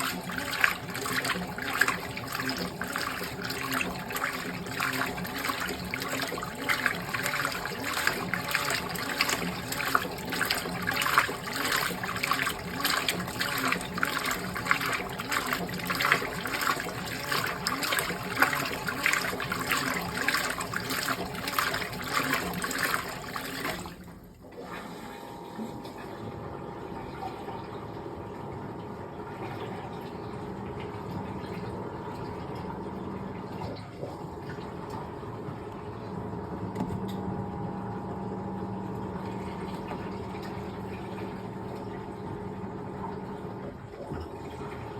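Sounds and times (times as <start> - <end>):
water sloshing and splashing: 0.0 - 37.2, 38.5 - 44.9
washing machine agitating: 0.0 - 44.9.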